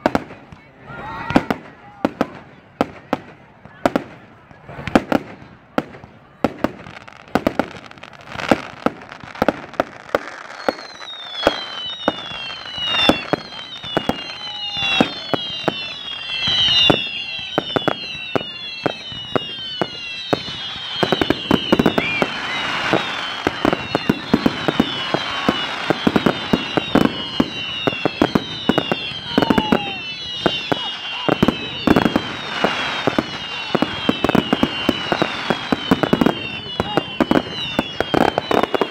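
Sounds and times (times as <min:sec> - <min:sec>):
firework bangs: 0:01.2 - 0:38.9
firework crackling: 0:01.3 - 0:38.9
falling firework whistles: 0:06.8 - 0:38.9.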